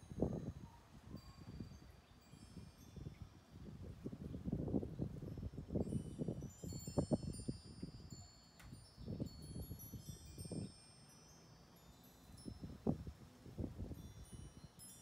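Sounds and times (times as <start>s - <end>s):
metal wind chimes ringing: 0.0s - 15.0s.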